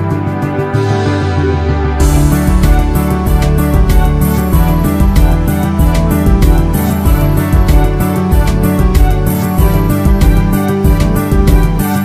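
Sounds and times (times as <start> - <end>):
held chords over steady bass: 0.0 - 12.0
crisp high percussion beat: 2.0 - 12.0.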